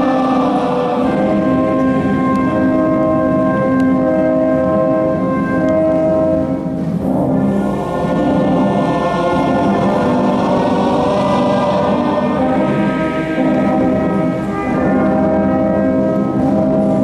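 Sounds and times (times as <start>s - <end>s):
choir singing sustained chords: 0.0s - 17.0s
wind band playing chords: 0.0s - 17.0s.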